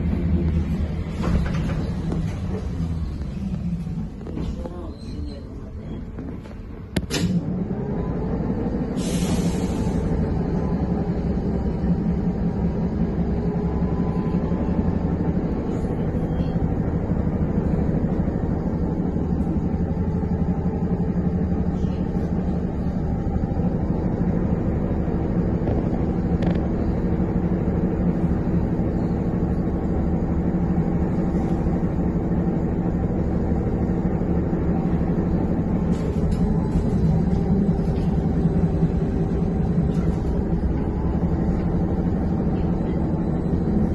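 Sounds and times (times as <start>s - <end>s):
trolleybus cabin hum: 0.0s - 43.9s.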